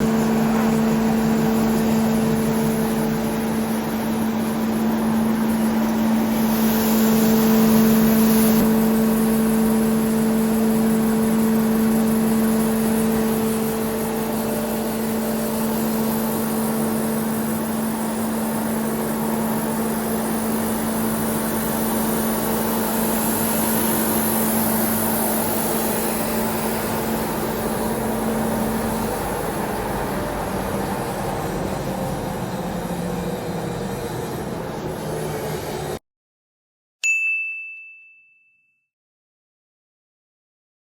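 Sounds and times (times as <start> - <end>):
grinding mill running: 0.0 - 36.0.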